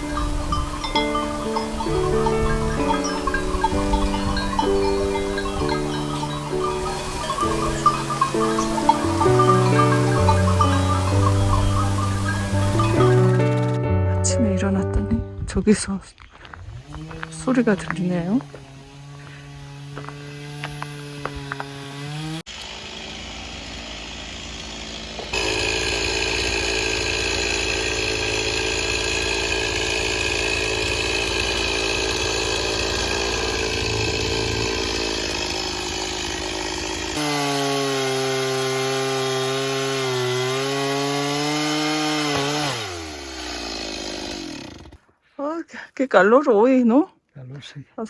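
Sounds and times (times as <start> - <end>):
chainsaw cutting wood: 0.0 - 14.0, 16.4 - 45.2.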